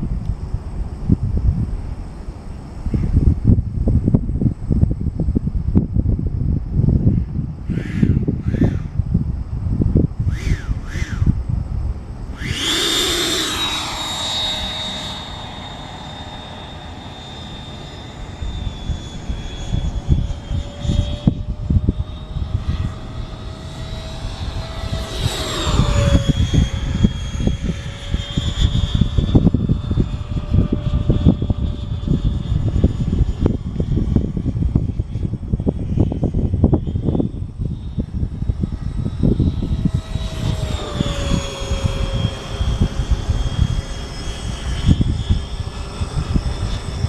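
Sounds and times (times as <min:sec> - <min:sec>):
airplane engine noise: 0:00.0 - 0:47.0
steady whine: 0:00.0 - 0:47.0
wind buffeting microphone: 0:00.0 - 0:47.0.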